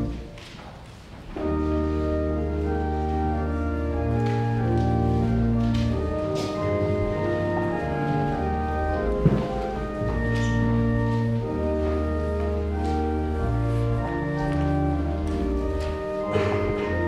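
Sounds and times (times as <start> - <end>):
church organ sustained chords: 0.0 - 0.3, 1.3 - 17.0.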